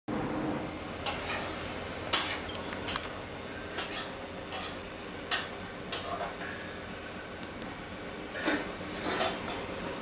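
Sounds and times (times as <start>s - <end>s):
steady background noise: 0.1s - 10.0s.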